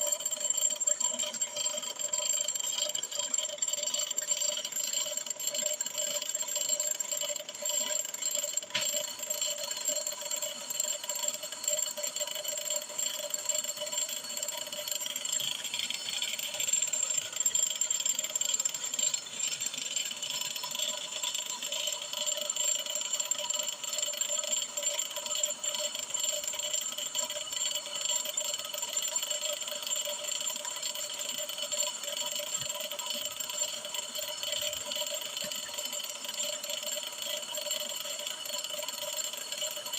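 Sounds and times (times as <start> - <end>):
brake lathe machine whine: 0.0 - 39.9
high ringing tones: 0.0 - 39.9.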